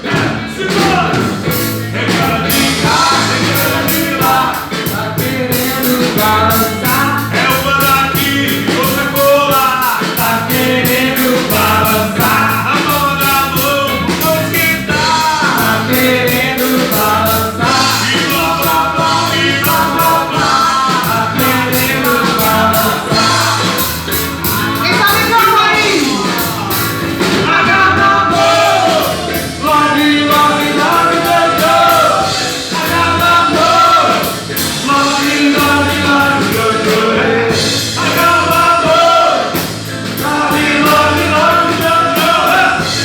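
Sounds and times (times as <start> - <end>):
drums and cymbals: 0.0 - 43.0
live rock band playing: 0.0 - 43.0
person singing: 0.0 - 43.0.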